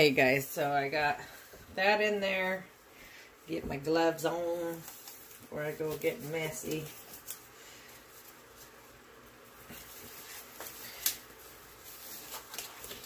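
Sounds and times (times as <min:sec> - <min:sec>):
rubber gloves rustling: 0:00.0 - 0:13.0.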